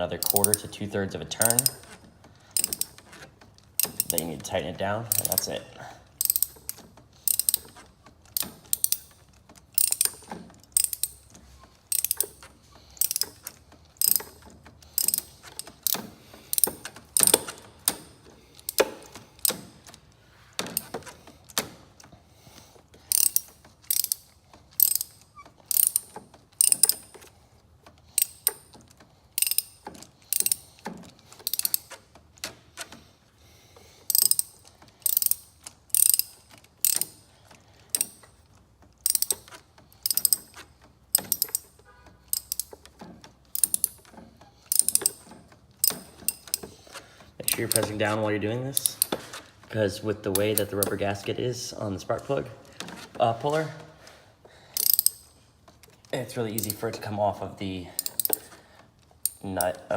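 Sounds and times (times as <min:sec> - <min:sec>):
ratchet clicking: 0:00.1 - 0:04.4, 0:05.1 - 0:33.2, 0:33.8 - 0:49.4, 0:50.3 - 0:51.0, 0:54.7 - 0:55.8, 0:56.6 - 0:56.9, 0:57.9 - 0:59.8.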